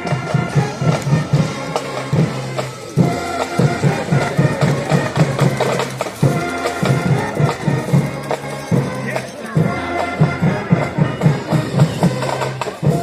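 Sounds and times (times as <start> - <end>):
crowd noise: 0.0 - 13.0
loud music with driving drum beat: 0.0 - 13.0.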